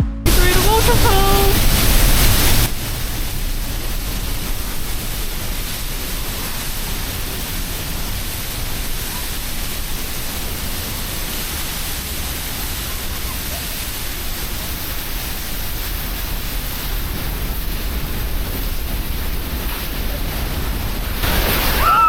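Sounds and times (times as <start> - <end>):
waterfall rushing: 0.3 - 22.0.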